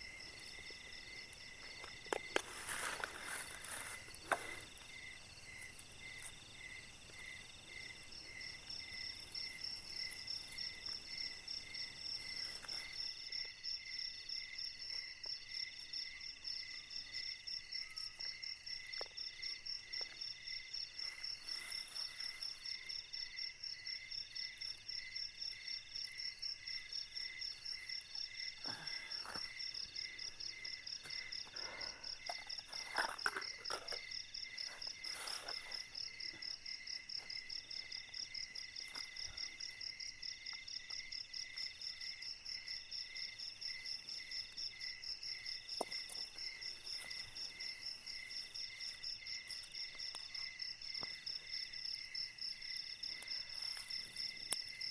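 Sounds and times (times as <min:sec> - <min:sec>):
crickets and insects trilling: 0:00.0 - 0:54.9.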